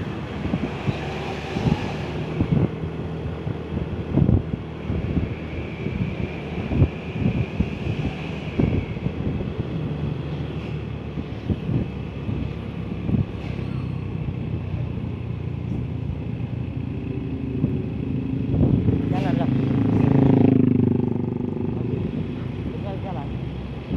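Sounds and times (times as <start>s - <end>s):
vehicle engines rumbling in traffic: 0.0s - 23.9s.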